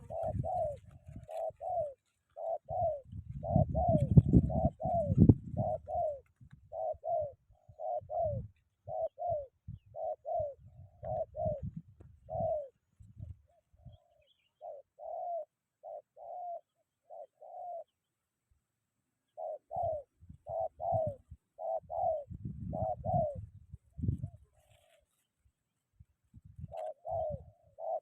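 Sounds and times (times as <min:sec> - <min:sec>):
dove cooing: 0:00.0 - 0:18.0, 0:19.3 - 0:25.0, 0:26.5 - 0:28.0.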